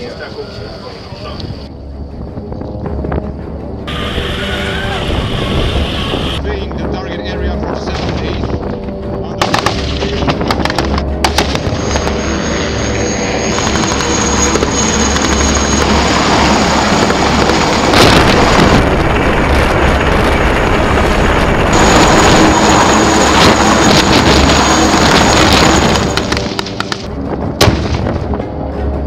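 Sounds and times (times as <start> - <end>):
helicopter rotor noise: 0.0 - 27.6
high turbine whine: 0.0 - 27.6.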